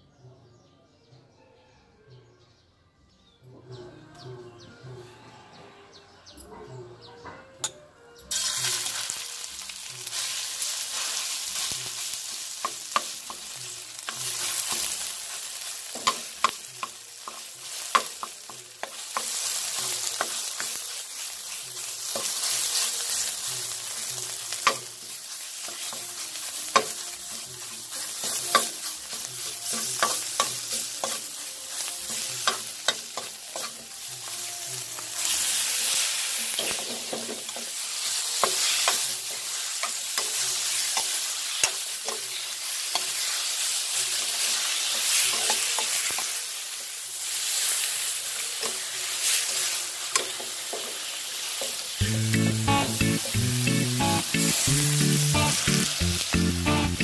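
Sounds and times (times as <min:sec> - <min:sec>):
curry paste sizzling in hot oil: 0:08.3 - 0:57.0.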